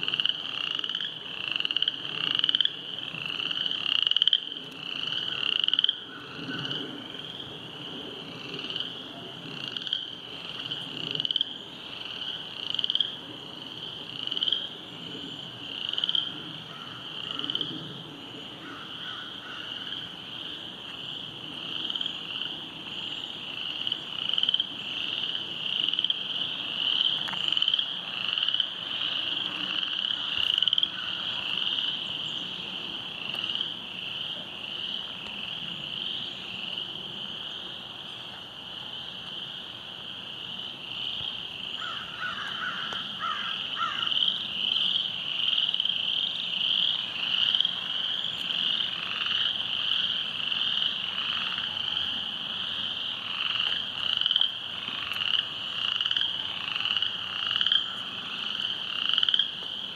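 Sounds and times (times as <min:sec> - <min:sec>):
chorus of frogs calling: 0:00.0 - 0:59.9
low pulsing frog call: 0:00.0 - 0:59.9.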